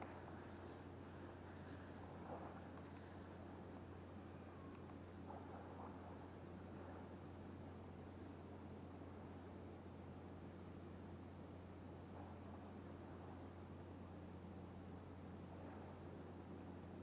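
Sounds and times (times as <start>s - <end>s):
cricket trill: 0.0s - 17.0s.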